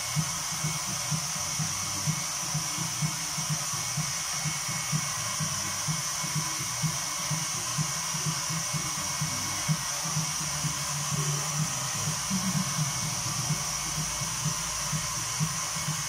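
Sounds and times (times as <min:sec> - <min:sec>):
hot-air blower whooshing hiss: 0:00.0 - 0:16.0.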